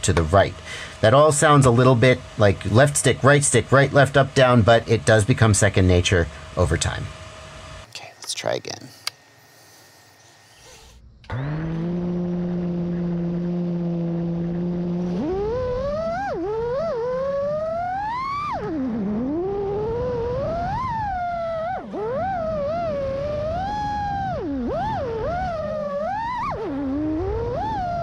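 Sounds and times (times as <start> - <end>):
drone motors humming: 0.0 - 28.0.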